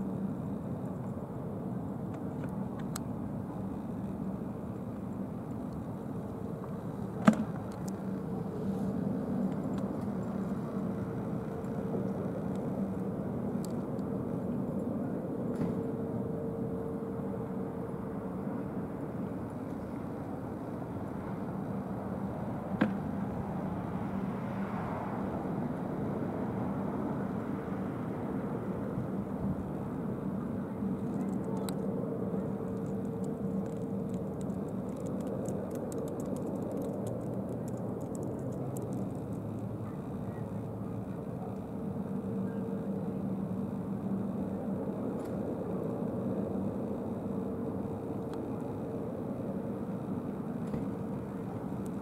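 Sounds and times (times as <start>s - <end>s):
helicopter rotor and engine hum: 0.0s - 24.3s, 25.2s - 52.0s
faint steady tone: 0.0s - 52.0s.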